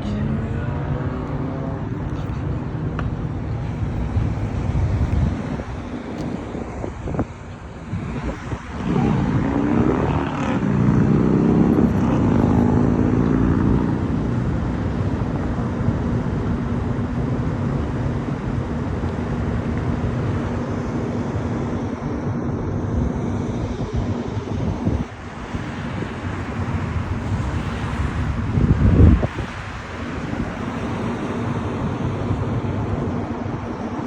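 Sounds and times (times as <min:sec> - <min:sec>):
motor engine droning: 0:00.0 - 0:34.0
wind buffeting microphone: 0:00.0 - 0:34.0.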